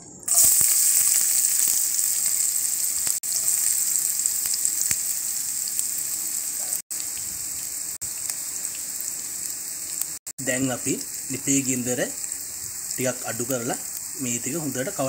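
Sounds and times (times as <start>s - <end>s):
onions sizzling in hot oil: 0.3s - 15.0s.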